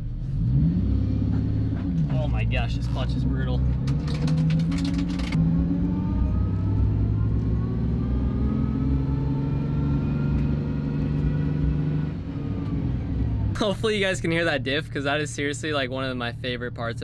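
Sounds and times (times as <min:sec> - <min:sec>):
car engine pulling at low speed: 0:00.0 - 0:17.0.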